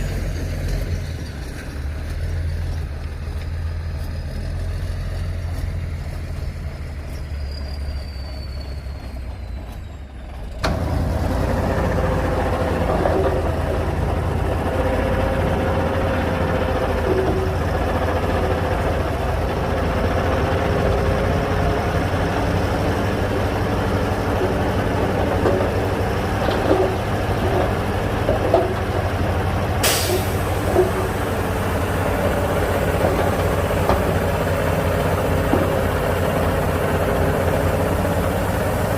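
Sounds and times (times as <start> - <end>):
heavy diesel engine rumble: 0.0 - 38.9
machinery clanks: 7.0 - 38.9.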